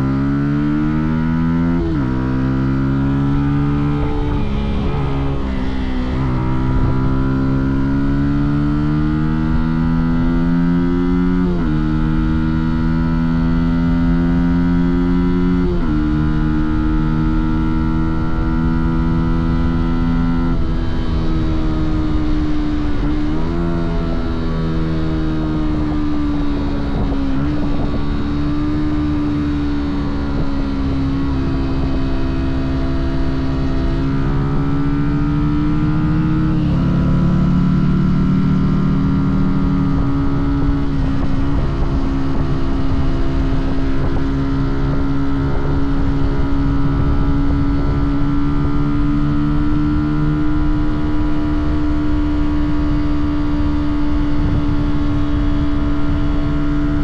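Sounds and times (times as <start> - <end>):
motorcycle engine and exhaust: 0.0 - 57.0
road rumble: 0.0 - 57.0
wind: 0.0 - 57.0.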